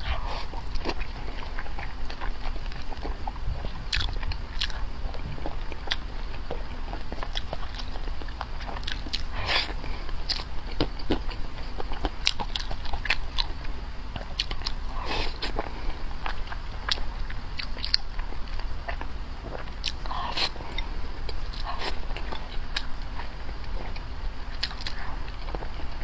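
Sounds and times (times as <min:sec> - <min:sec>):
low steady hum: 0:00.0 - 0:26.0
person chewing food: 0:00.0 - 0:26.0.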